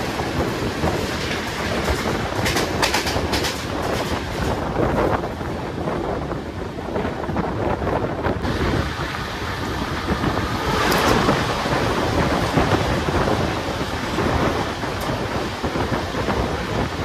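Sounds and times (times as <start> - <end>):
rushing wind: 0.0 - 17.0
train wheels rumbling on rails: 0.0 - 17.0.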